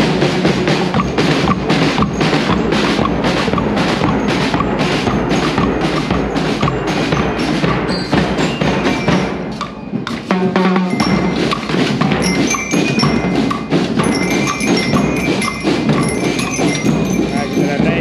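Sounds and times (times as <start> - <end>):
bell notes ringing: 0.0 - 18.0
marching drums beating: 0.0 - 18.0.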